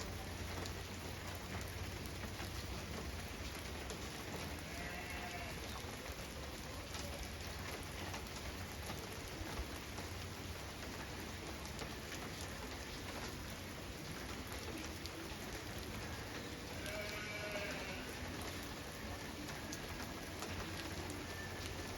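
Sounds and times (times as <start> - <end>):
raindrops ticking close by: 0.0 - 21.9
steady rain falling: 0.0 - 21.9.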